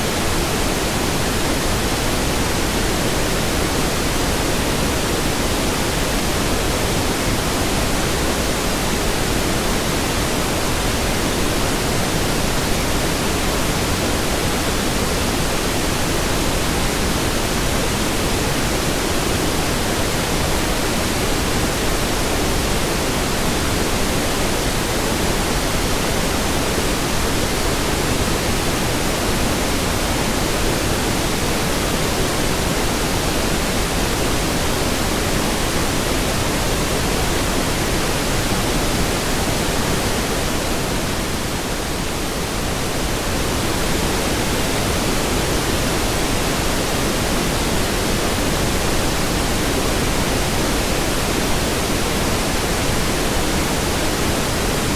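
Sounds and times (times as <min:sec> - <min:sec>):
pink noise hiss: 0:00.0 - 0:54.9.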